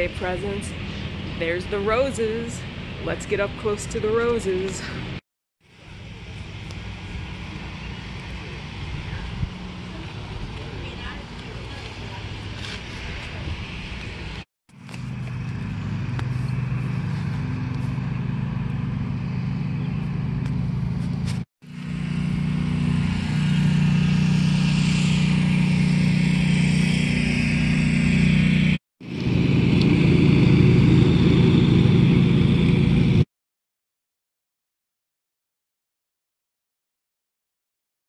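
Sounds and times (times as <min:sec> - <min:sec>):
lawnmower engines running: 0:00.0 - 0:33.2.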